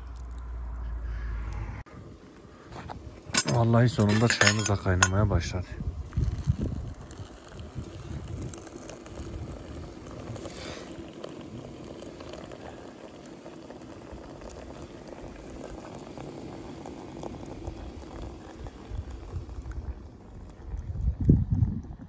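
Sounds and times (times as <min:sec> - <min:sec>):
water pouring into metal teapot: 0:00.0 - 0:00.8, 0:03.2 - 0:22.0
water boiling: 0:00.0 - 0:01.1, 0:02.0 - 0:22.0.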